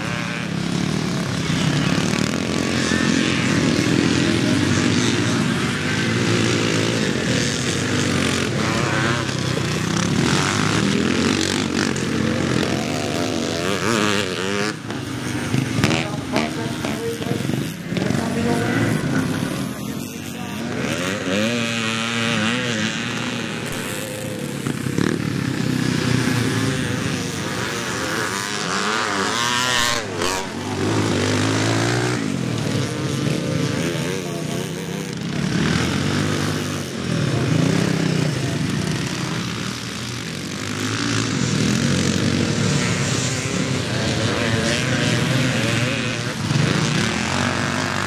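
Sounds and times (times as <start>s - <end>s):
motorcycles revving past: 0.0s - 48.0s.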